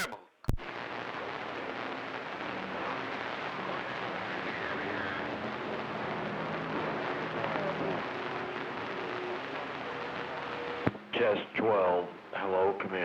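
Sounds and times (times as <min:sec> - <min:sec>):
garbled distorted radio transmission: 0:00.0 - 0:11.6
radio static hiss: 0:00.0 - 0:13.0.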